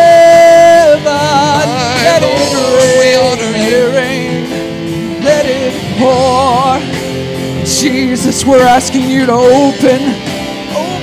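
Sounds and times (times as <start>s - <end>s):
sustained instrumental backing: 0.0s - 11.0s
voices singing with vibrato: 0.0s - 11.0s.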